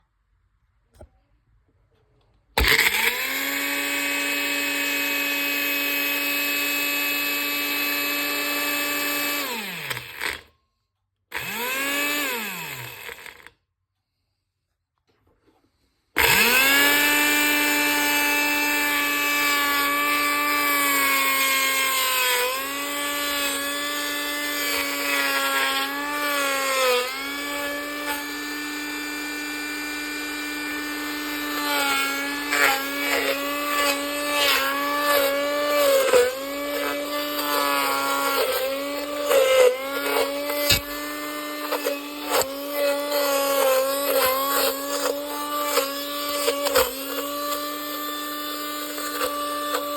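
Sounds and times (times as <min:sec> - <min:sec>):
blender motor whining: 0:02.6 - 0:10.5, 0:11.3 - 0:13.6, 0:16.1 - 0:49.9.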